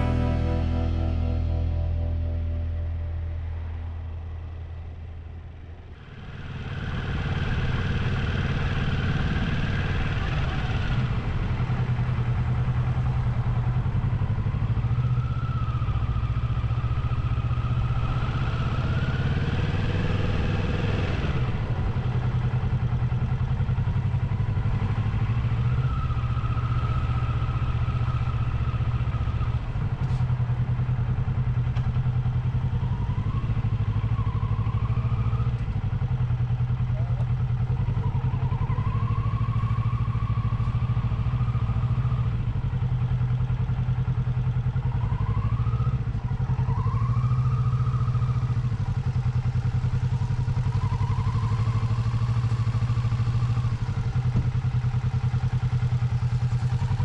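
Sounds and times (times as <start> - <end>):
motorcycle engine whining: 0.0 - 57.0.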